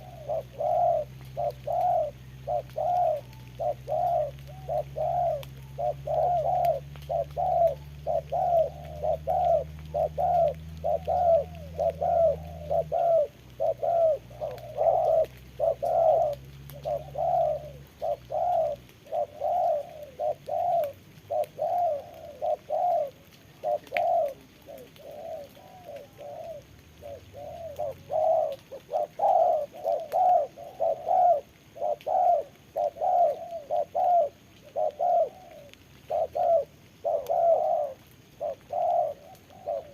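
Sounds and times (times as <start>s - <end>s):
doves cooing: 0.0s - 39.9s
low steady hum: 0.0s - 39.9s.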